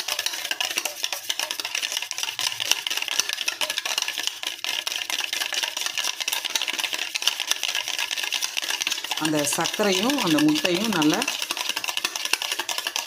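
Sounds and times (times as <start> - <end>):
whisk beating in metal bowl: 0.0 - 13.0.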